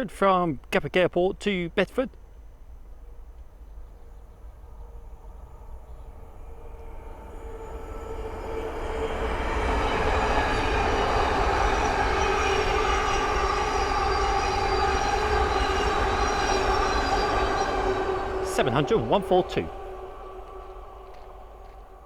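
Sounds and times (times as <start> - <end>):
electric train whine: 2.2 - 22.0
train wheel and rail noise: 2.2 - 22.0.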